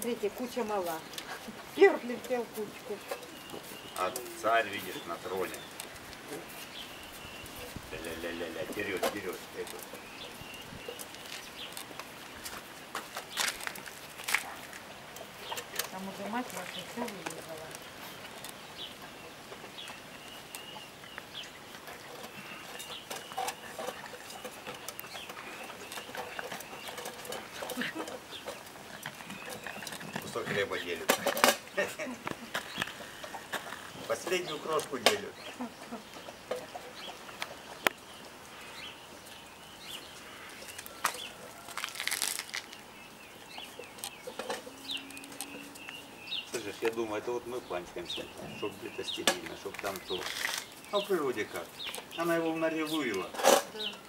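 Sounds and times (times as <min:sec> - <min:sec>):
puppies chewing and lapping: 0:00.1 - 0:53.2.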